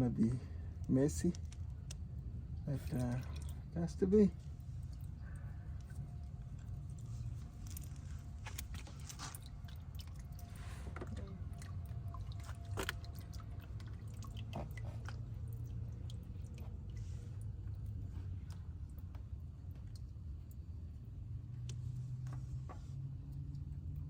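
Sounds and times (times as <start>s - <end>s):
low steady rumble: 0.0s - 24.0s
wet squishy handling sounds: 0.6s - 20.8s.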